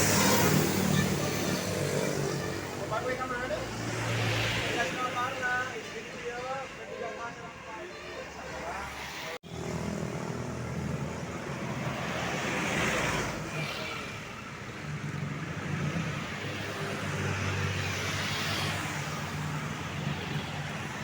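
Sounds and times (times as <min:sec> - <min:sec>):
vehicles driving past: 0:00.0 - 0:21.0.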